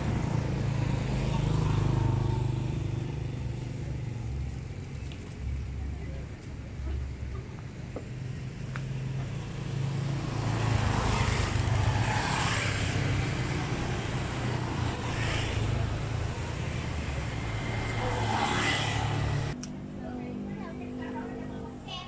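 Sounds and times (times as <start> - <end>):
low traffic hum: 0.0 - 22.0
motor scooters passing: 0.0 - 22.0.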